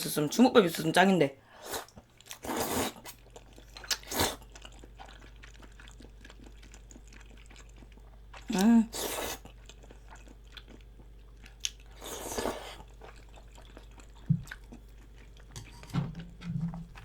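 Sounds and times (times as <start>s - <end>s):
person chewing and biting: 2.2s - 17.0s.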